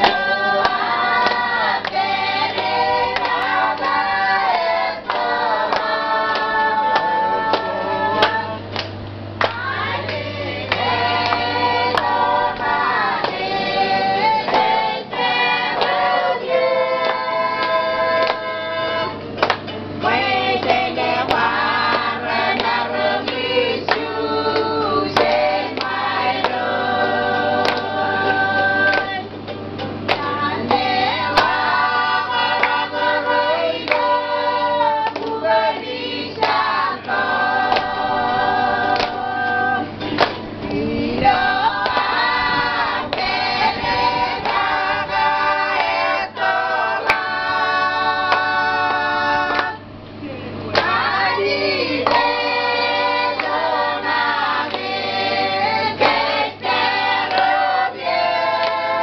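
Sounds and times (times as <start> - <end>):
hand claps: 0.0 - 13.6, 14.2 - 18.5, 19.4 - 26.8, 27.6 - 28.0, 28.8 - 33.2, 33.8 - 34.2, 34.9 - 39.2, 40.0 - 40.8, 41.7 - 43.8, 44.4 - 47.4, 48.2 - 49.8, 50.7 - 53.6, 54.5 - 55.0, 56.0 - 56.2, 57.0 - 58.9
women singing together: 0.0 - 59.0.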